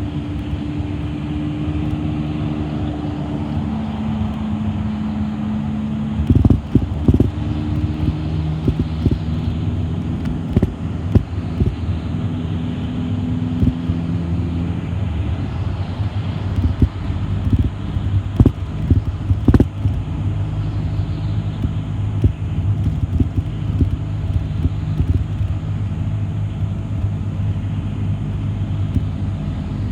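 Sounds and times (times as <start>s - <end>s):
bus engine drone: 0.0s - 29.9s.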